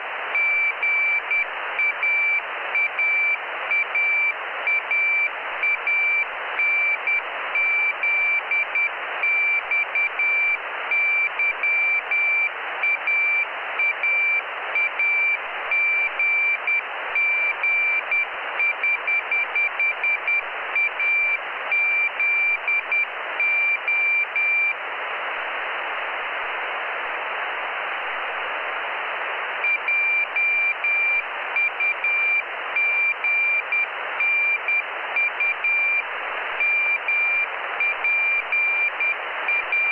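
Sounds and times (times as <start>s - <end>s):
radio receiver hiss: 0.0s - 39.9s.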